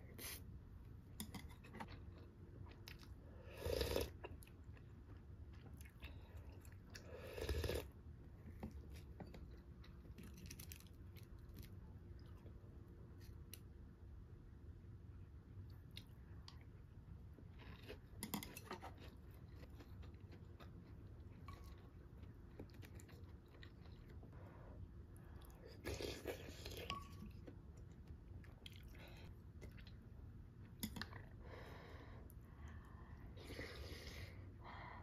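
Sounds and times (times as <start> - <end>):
person chewing food: 1.0 - 13.7, 15.6 - 31.5.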